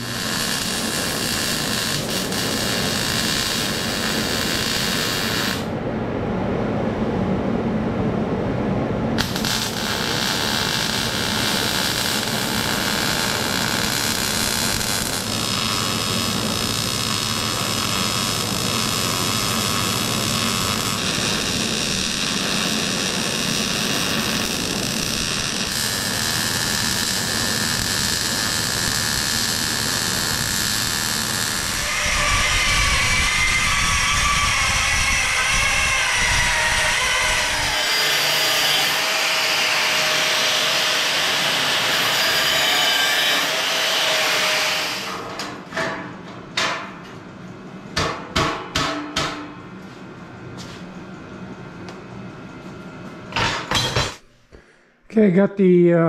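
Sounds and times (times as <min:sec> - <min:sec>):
metalworking noise: 0:00.0 - 0:05.7, 0:09.2 - 0:47.2, 0:52.7 - 0:54.6.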